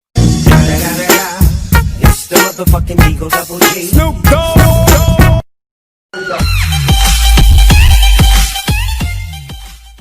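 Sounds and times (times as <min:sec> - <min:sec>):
electronic music with heavy bass: 0:00.2 - 0:05.4, 0:06.2 - 0:10.0.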